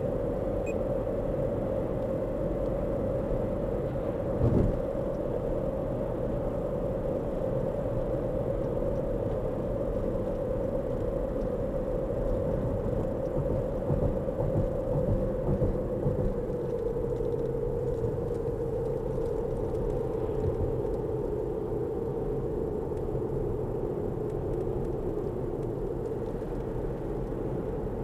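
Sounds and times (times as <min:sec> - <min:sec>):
car driving interior rumble: 0:00.0 - 0:28.0.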